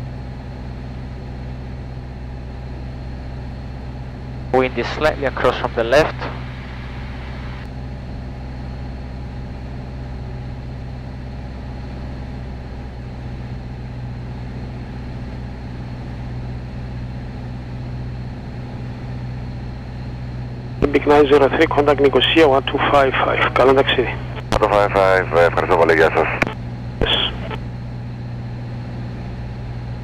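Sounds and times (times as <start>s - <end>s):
propeller plane engine drone: 0.0s - 30.0s.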